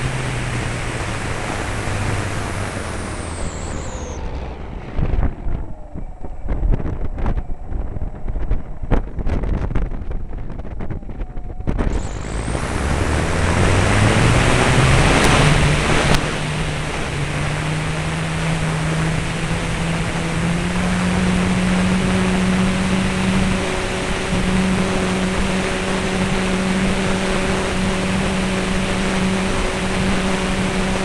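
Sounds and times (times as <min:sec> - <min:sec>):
model aeroplane motor: 0:00.0 - 0:31.0.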